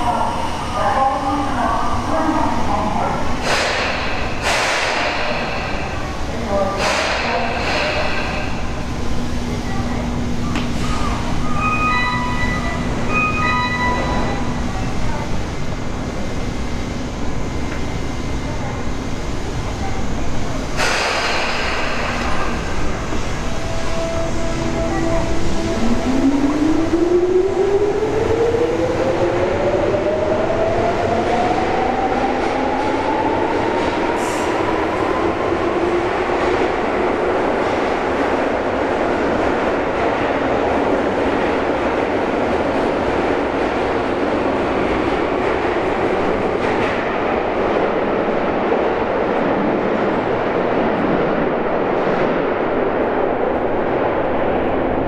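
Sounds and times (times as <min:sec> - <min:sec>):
train cars running noise: 0:00.0 - 0:55.0.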